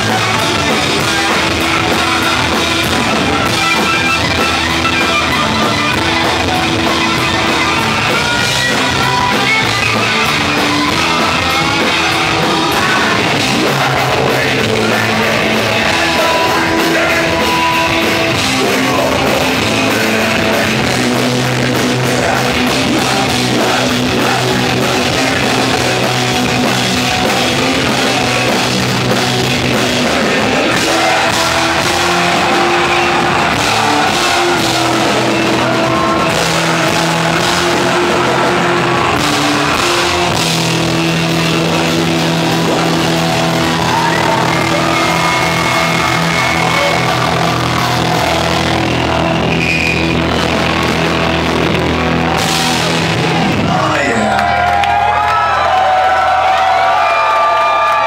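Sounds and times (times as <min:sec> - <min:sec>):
person singing: 0:00.0 - 0:50.5
bass notes: 0:00.0 - 0:58.0
drum kit: 0:00.0 - 0:58.0
electric guitars: 0:00.0 - 0:58.0.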